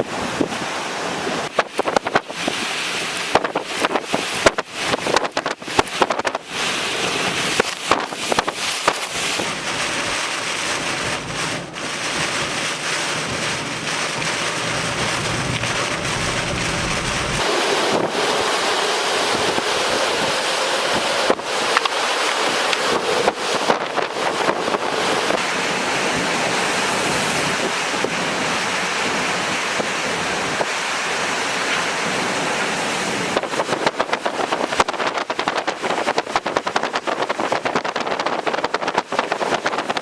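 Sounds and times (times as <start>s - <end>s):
wind buffeting microphone: 0.0s - 30.7s, 32.1s - 40.0s.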